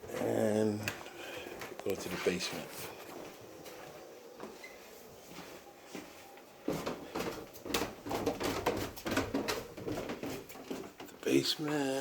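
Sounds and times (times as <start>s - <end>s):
footsteps going down stairs: 0.0s - 12.0s.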